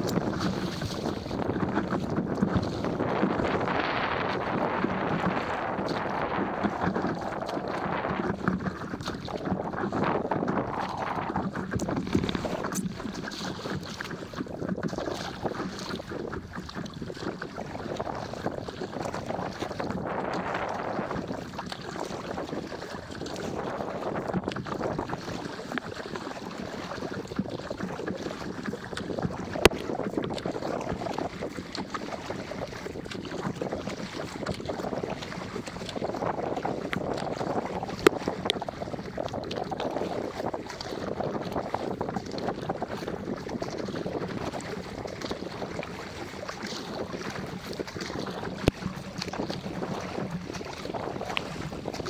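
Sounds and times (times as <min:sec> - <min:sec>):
water splashing around paddleboard: 0:00.0 - 0:52.0
wind buffeting microphone: 0:00.0 - 0:52.0.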